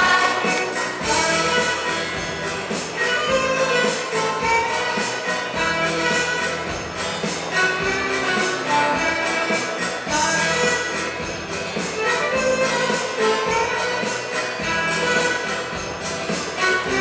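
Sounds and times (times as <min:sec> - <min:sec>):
jingling percussion beat: 0:00.0 - 0:17.0.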